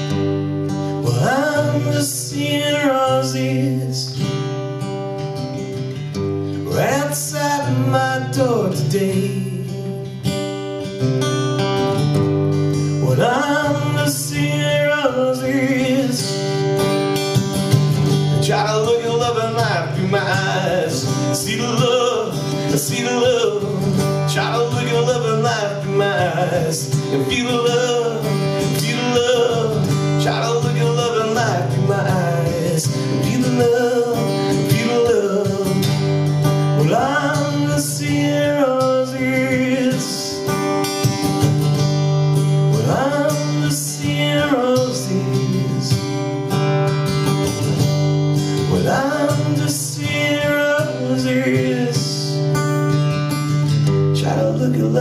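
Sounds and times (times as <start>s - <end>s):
guitar chords: 0.0s - 55.0s.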